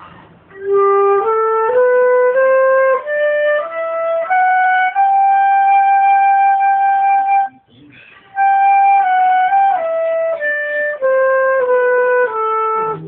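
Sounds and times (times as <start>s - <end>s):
flute-like wind instrument: 0.0s - 7.6s, 8.3s - 13.0s.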